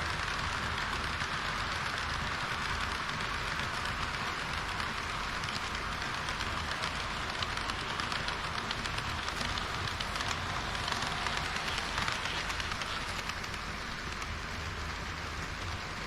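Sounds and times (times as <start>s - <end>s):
model train wheels rattling on rail: 0.0s - 16.0s.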